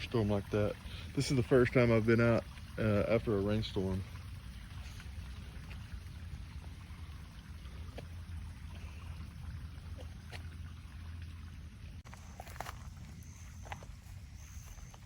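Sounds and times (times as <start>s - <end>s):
water rushing down creek: 0.0s - 15.0s.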